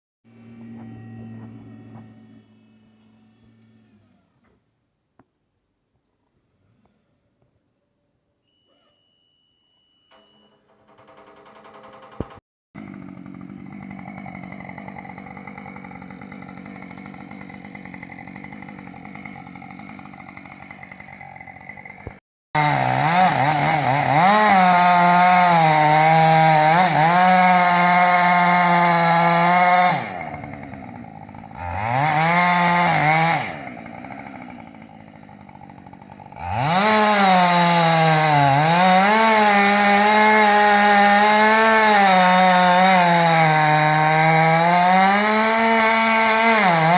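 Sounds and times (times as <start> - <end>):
chainsaw cutting wood: 0.3 - 4.6, 10.1 - 46.9.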